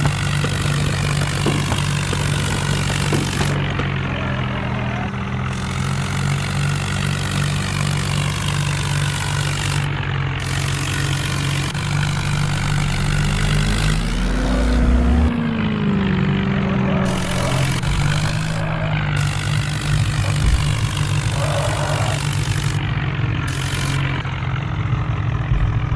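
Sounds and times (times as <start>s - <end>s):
vehicle engine running and revving: 0.0s - 25.9s.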